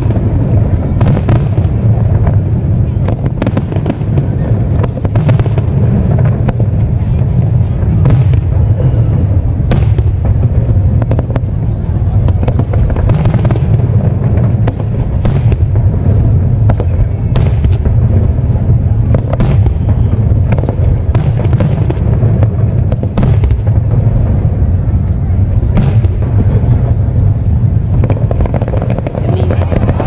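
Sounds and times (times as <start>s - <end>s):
fireworks booming: 0.0s - 30.0s
sharp fireworks bangs: 0.0s - 30.0s.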